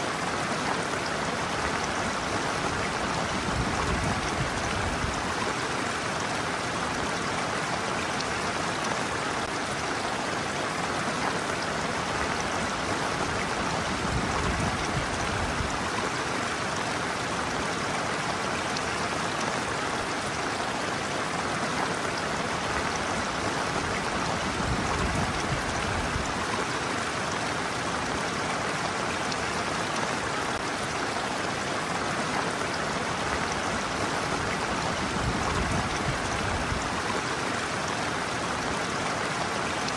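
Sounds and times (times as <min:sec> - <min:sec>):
stream water rushing around feet: 0:00.0 - 0:39.9.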